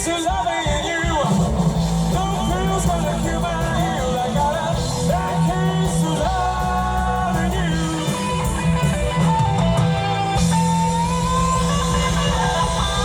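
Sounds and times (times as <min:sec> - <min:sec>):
person singing: 0:00.0 - 0:09.8, 0:10.6 - 0:13.0
drums: 0:00.0 - 0:13.0
electric guitar: 0:00.0 - 0:13.0.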